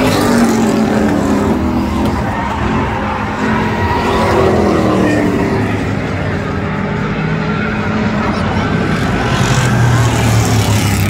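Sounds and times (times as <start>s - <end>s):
race truck engines passing: 0.0s - 11.0s.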